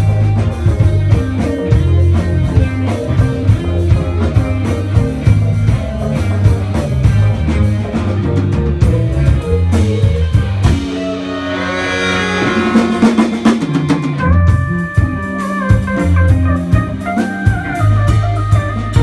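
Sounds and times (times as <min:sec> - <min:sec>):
drum kit: 0:00.0 - 0:19.0
electric bass: 0:00.0 - 0:19.0
electric guitar: 0:00.0 - 0:19.0
held melody line: 0:00.0 - 0:19.0.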